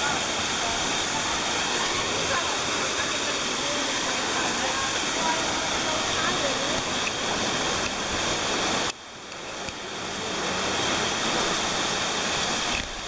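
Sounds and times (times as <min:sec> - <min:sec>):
waterfall rushing into a pool: 0:00.0 - 0:13.0.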